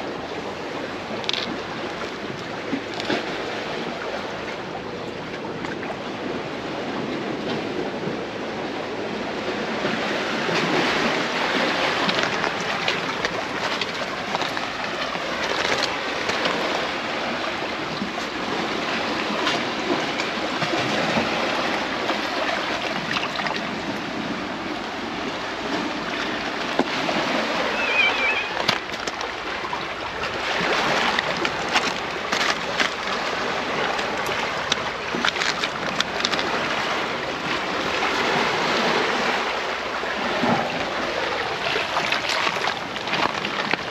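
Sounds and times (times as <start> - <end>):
sea waves on pebbly shore: 0.0 - 43.9.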